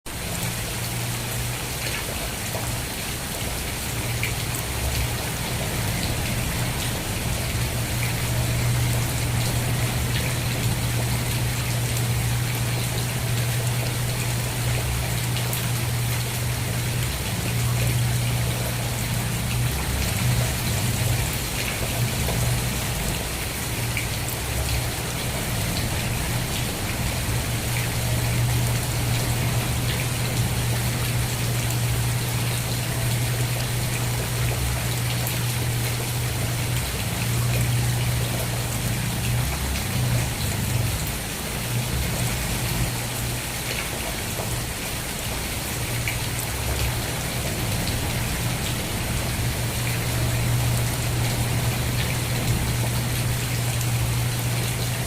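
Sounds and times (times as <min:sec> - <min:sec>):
rain pattering: 0:00.1 - 0:55.0.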